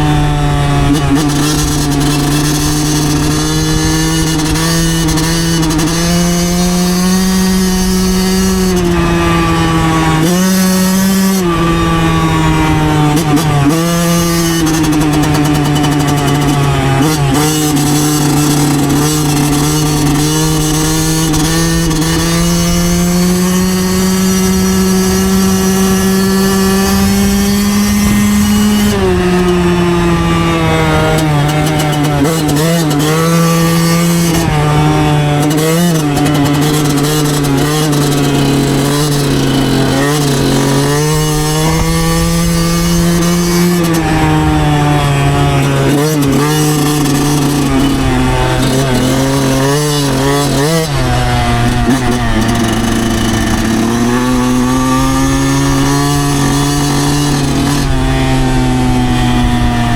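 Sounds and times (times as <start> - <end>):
two-stroke engine revving: 0.0 - 59.9
wind noise: 0.0 - 59.9.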